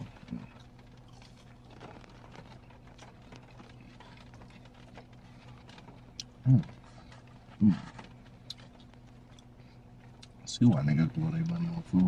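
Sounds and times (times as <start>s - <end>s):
chewing and lip-smacking: 0.0s - 10.4s
steady low hum: 0.0s - 12.0s.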